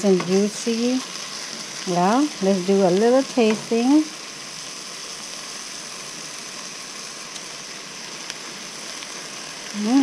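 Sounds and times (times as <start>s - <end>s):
fish sizzling in a wok: 0.0s - 10.0s.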